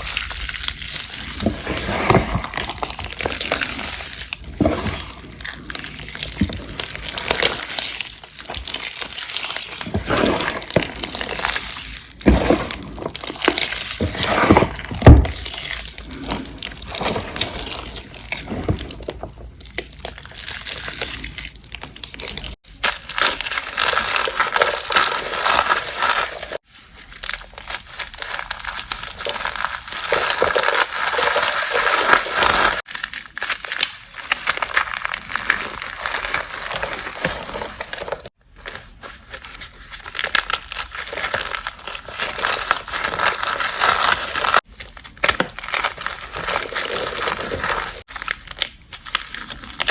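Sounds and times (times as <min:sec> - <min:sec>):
powder crushing and crunching: 0:00.0 - 0:49.9.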